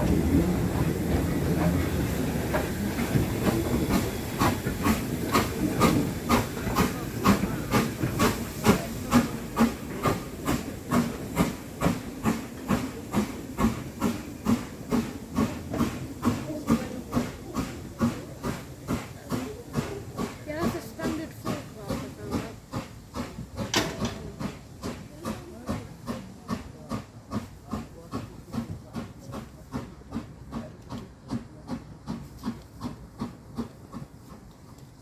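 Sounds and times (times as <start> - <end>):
steam hissing: 0.0 - 35.0
steam locomotive chuffing: 0.0 - 35.0.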